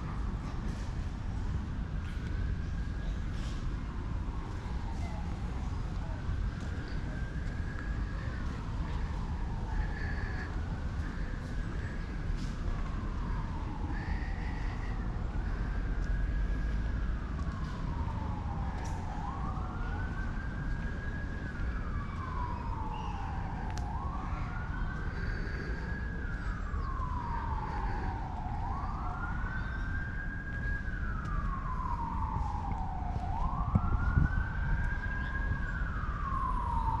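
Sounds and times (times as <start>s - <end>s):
emergency siren wailing: 0.0s - 37.0s.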